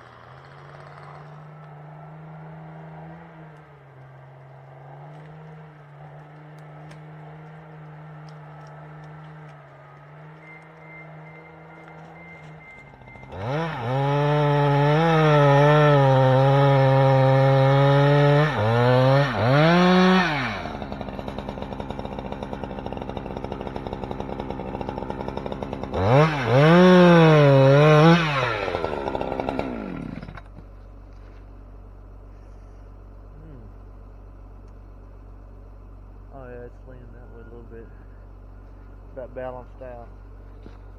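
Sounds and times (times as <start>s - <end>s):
chainsaw revving and idling: 0.0s - 31.4s, 32.4s - 33.9s, 36.1s - 40.9s.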